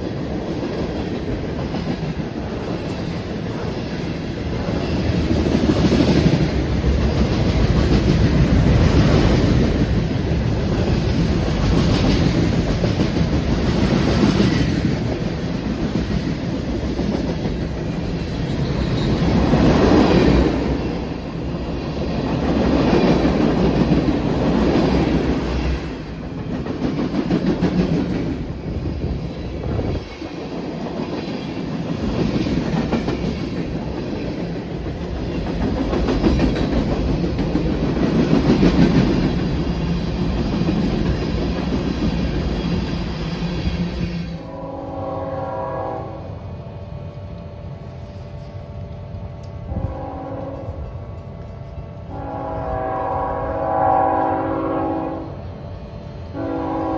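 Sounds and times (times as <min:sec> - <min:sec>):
train cars rumbling past: 0:00.0 - 0:56.9.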